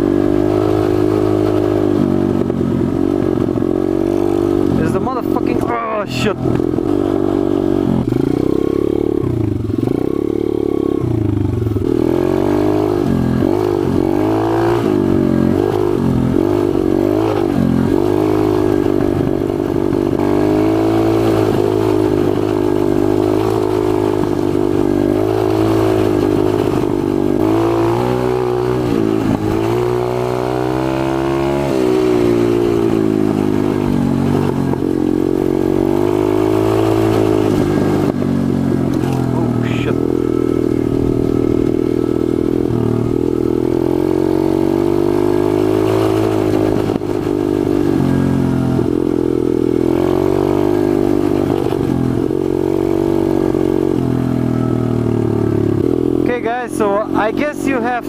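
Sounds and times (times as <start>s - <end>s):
pit bike engine revving: 0.0s - 58.0s.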